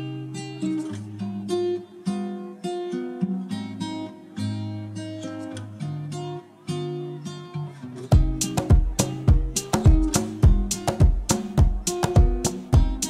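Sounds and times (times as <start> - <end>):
acoustic guitar plucking: 0.0 - 13.0.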